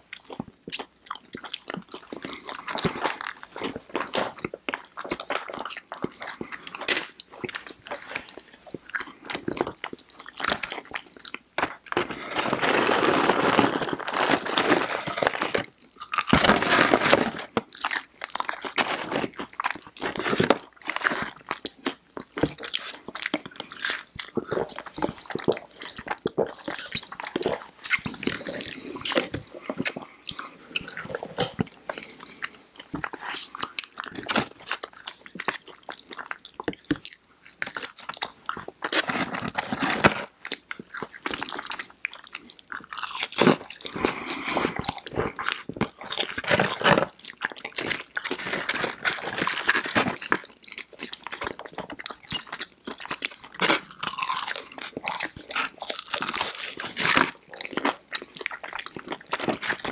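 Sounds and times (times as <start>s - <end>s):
chewing crunchy fried food: 0.0s - 59.9s.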